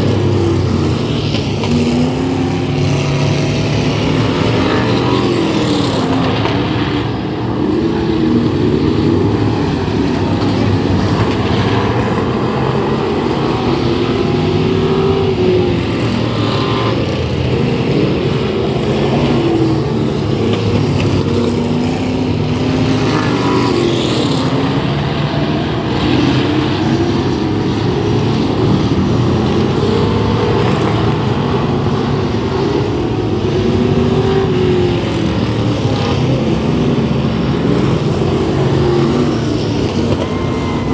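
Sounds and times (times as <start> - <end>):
race car engines: 0.0 - 40.9.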